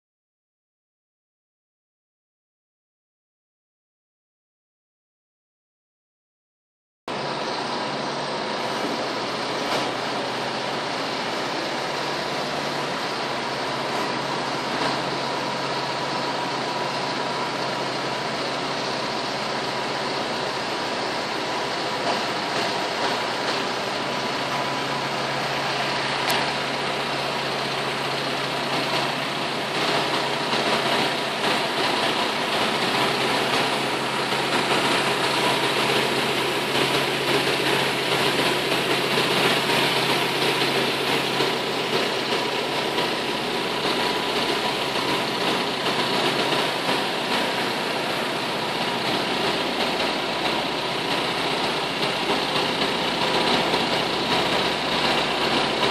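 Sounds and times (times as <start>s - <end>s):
engine running: 7.1s - 55.9s.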